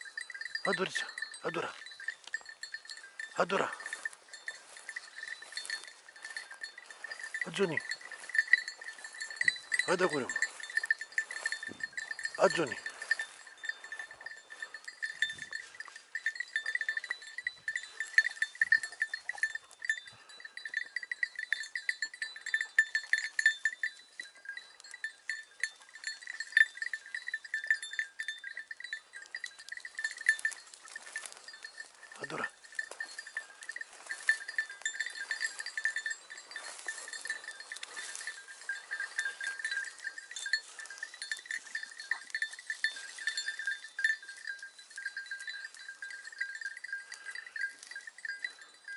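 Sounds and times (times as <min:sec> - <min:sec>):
small metal bell jingling: 0:00.0 - 0:48.9.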